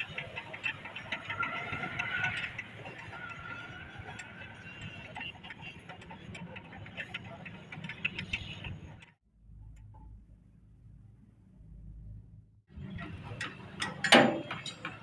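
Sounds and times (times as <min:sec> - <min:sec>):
tractor engine hum: 0:00.0 - 0:15.0.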